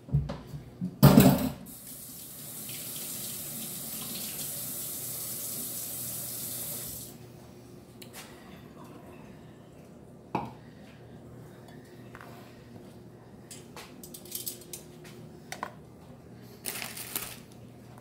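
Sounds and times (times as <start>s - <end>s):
faint steady hum: 0.1s - 18.0s.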